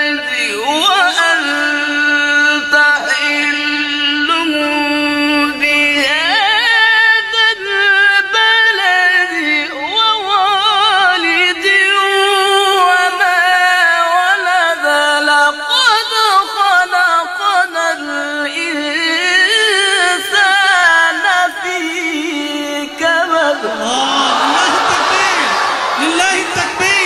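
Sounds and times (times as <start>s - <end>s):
man chanting in high voice: 0.0s - 27.0s.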